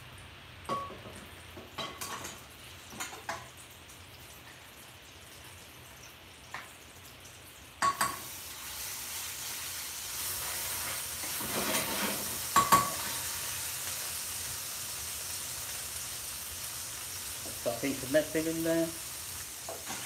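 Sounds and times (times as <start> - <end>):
hot oil sizzling in a frying pan: 0.0 - 20.0.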